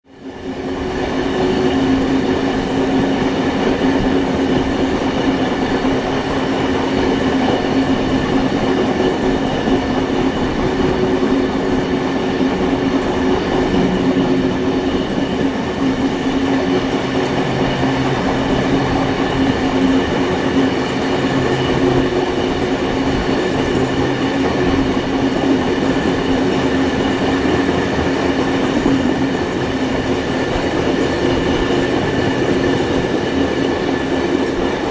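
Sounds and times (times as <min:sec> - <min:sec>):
train wheels rolling on rail: 0:00.1 - 0:34.9.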